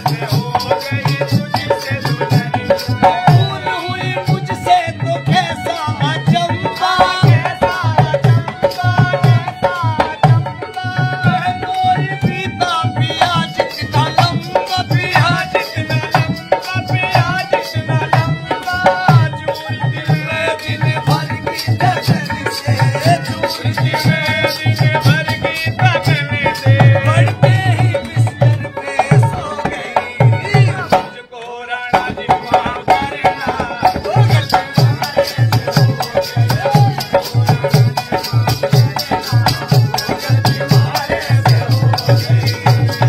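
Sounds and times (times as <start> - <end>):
hand drum folk beat: 0.0 - 43.0
harmonium melody: 0.0 - 43.0.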